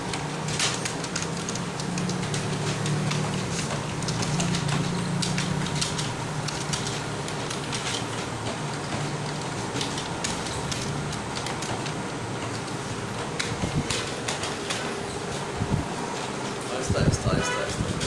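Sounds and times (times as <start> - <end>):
keyboard keys clicking: 0.0 - 15.5.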